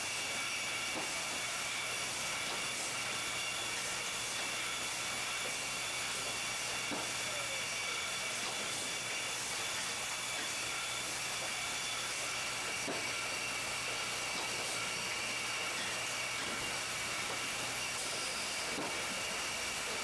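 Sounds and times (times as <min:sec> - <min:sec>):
packaging machine hiss and hum: 0:00.0 - 0:20.0.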